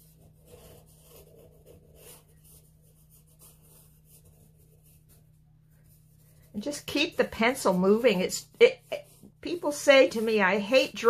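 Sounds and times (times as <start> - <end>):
pencil sketching on paper: 0.0 - 11.0.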